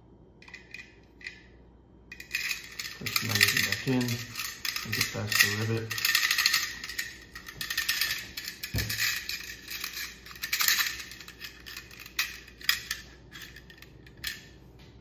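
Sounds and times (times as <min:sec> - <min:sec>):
metal spring jingling and scraping: 0:02.1 - 0:14.3.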